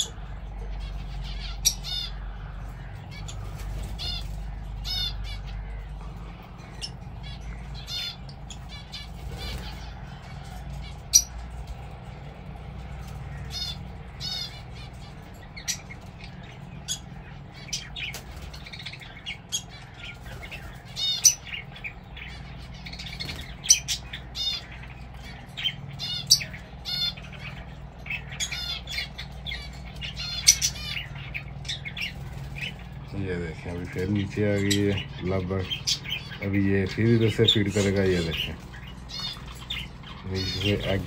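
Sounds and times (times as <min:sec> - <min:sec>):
birds chirping and squawking: 0:00.0 - 0:41.0.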